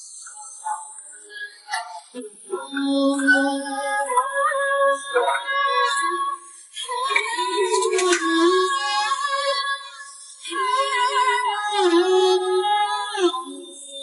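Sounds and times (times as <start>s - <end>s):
pop ballad with woman singing: 2.0s - 14.0s.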